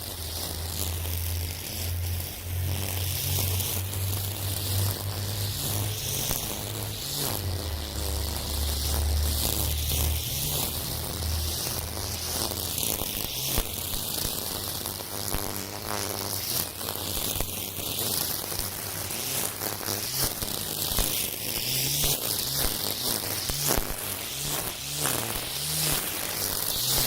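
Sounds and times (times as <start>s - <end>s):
string trimmer cutting weeds: 0.0s - 27.0s.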